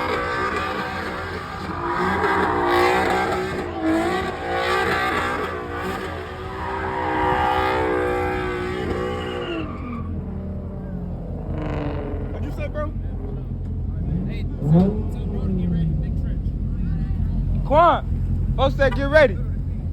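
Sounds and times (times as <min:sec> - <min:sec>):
car engine revving hard: 0:00.0 - 0:16.2
tires squealing: 0:00.0 - 0:19.7.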